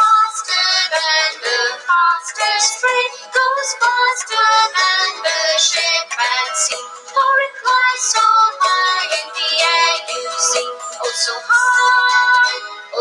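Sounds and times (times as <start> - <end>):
children's rhyme sung with music: 0.0 - 13.0.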